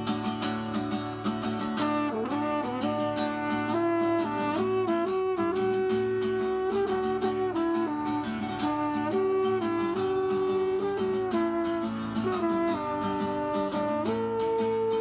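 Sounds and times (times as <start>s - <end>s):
acoustic guitar strumming: 0.0s - 15.0s
french horn melody: 1.6s - 15.0s.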